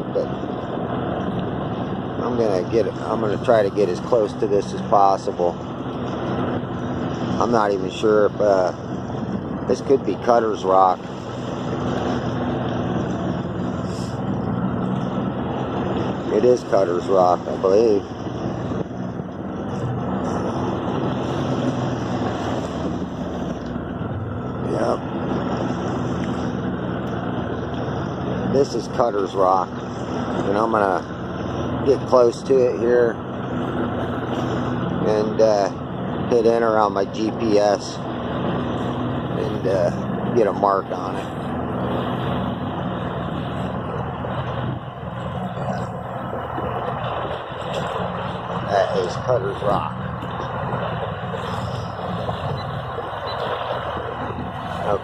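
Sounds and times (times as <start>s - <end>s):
boat motor running: 0.0s - 55.0s
wind and water rushing: 0.0s - 55.0s.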